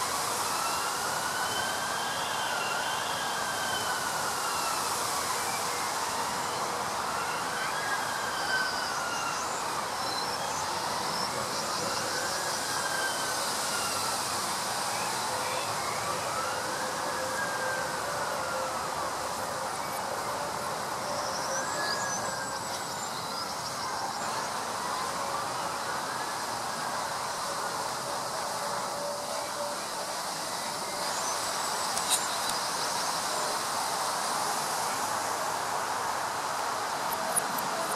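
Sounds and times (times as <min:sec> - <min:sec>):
wind through tree leaves: 0:00.0 - 0:37.9.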